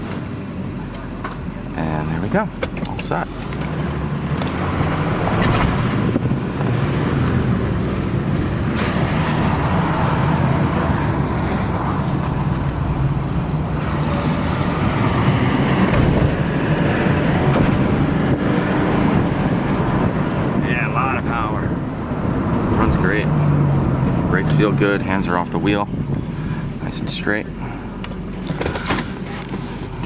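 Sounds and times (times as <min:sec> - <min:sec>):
diesel truck engine drone: 0:00.0 - 0:30.0
road noise: 0:00.0 - 0:30.0.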